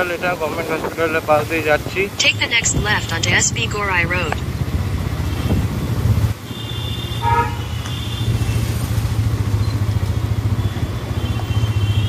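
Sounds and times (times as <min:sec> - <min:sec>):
motorcycle engine droning: 0:00.2 - 0:12.0.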